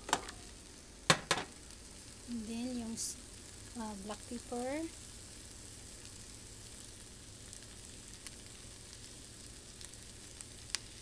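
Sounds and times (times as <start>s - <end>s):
faint crackles: 0.0s - 11.0s
food sizzling in a frying pan: 0.0s - 11.0s.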